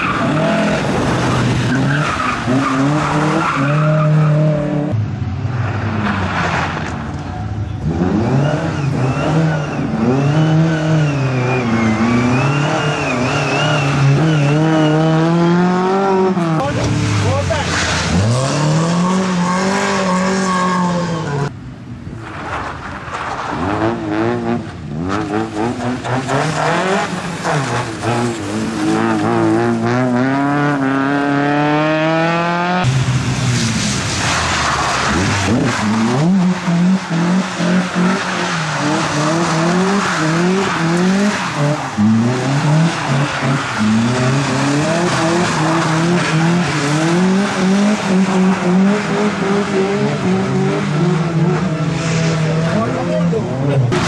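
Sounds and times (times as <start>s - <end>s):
car engine revving: 0.0s - 21.5s, 23.5s - 54.0s.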